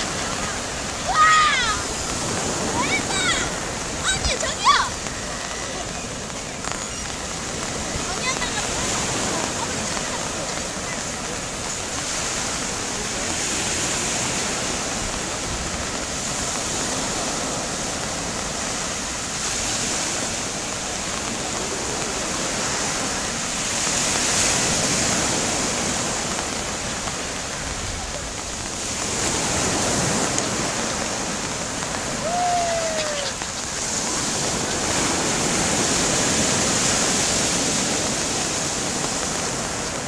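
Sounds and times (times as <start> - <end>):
waves breaking on a beach: 0.0 - 40.0.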